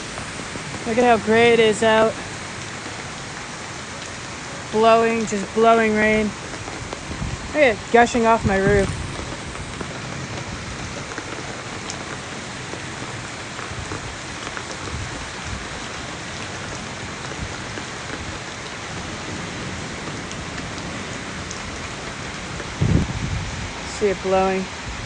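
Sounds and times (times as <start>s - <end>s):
heavy rain pouring: 0.0s - 25.0s
water gushing off a roof: 0.0s - 25.0s.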